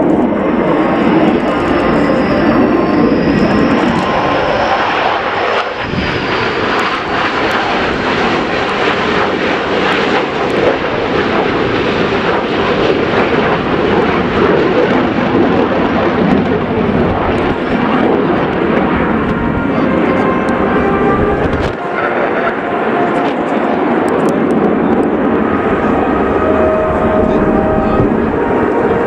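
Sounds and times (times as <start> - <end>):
fighter jets flying over: 0.0 - 29.0.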